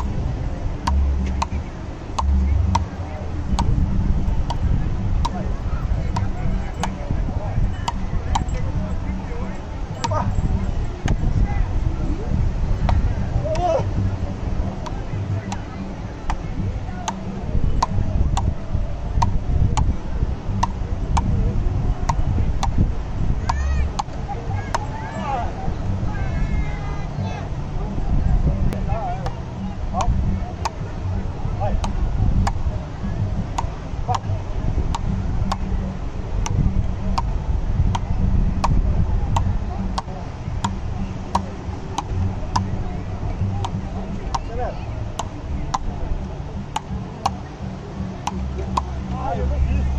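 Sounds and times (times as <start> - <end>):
low rumble: 0.0 - 49.9.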